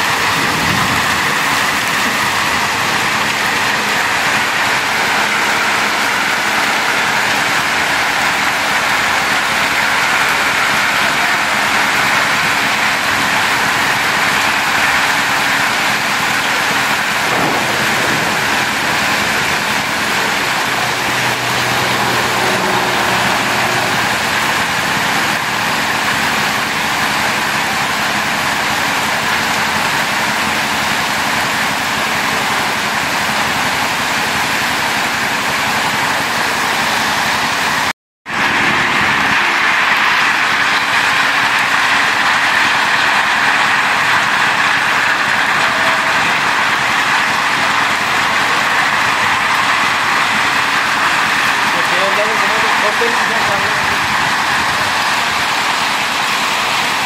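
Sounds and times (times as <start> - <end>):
heavy rain and hail on pavement: 0.0 - 57.0.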